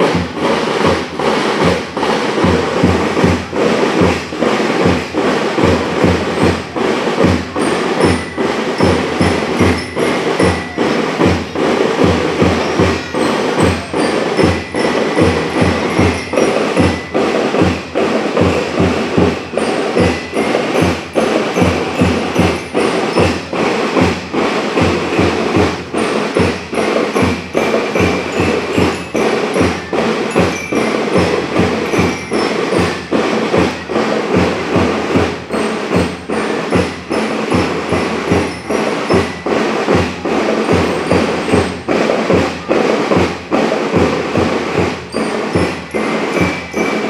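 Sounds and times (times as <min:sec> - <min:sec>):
bass and snare drums beating: 0:00.0 - 0:47.0
bell lyres ringing high notes: 0:00.0 - 0:47.0.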